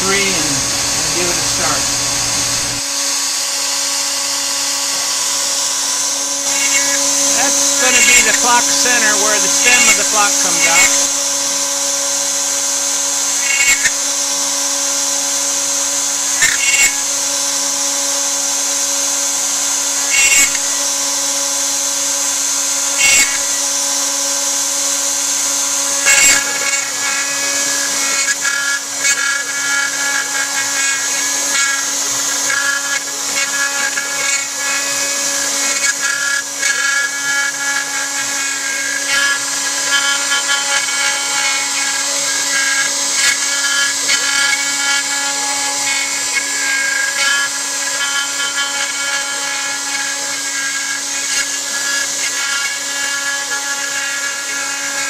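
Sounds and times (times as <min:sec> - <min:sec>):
bit carving wood: 0:00.0 - 0:55.0
router spindle whining: 0:00.0 - 0:55.0.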